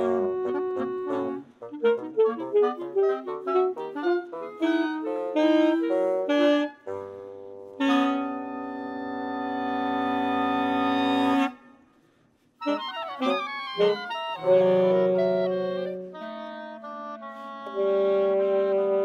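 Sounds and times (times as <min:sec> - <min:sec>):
woodwind ensemble playing: 0:00.0 - 0:11.8, 0:12.6 - 0:19.0.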